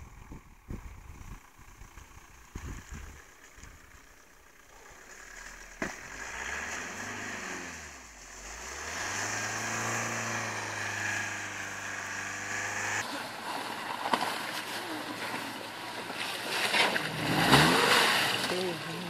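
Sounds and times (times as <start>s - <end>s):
car engine revving: 0.0s - 13.1s, 15.5s - 19.0s.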